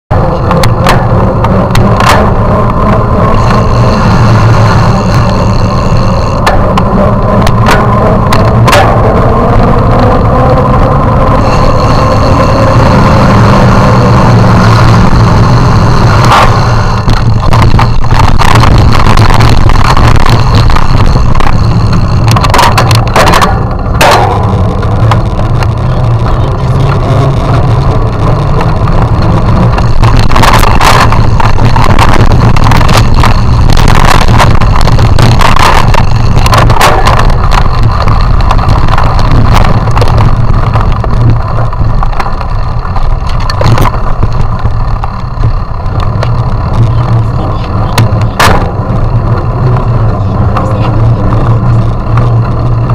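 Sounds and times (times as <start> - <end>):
bicycle rolling over pavers: 0.1 - 52.9
wind noise on camera: 0.1 - 52.9.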